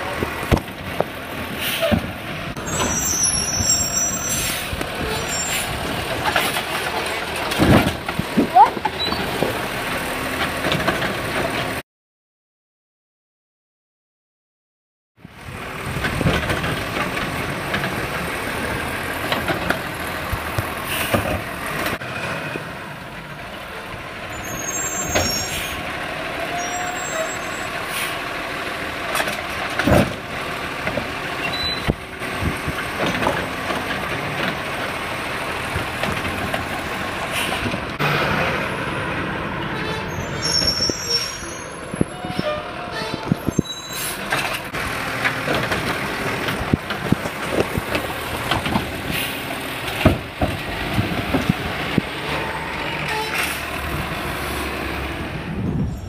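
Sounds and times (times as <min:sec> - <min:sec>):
garbage truck engine and hydraulics: 0:00.0 - 0:11.8, 0:15.2 - 0:56.0
truck pulling away: 0:00.0 - 0:11.8, 0:15.2 - 0:56.0.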